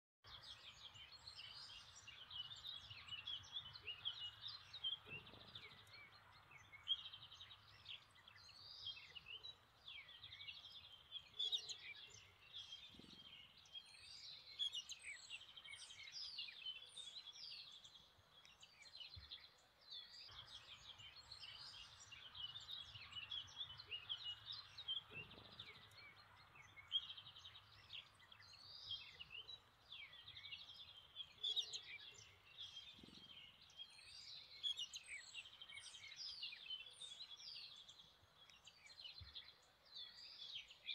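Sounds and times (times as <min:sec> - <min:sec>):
songbirds singing: 0:00.2 - 0:40.9.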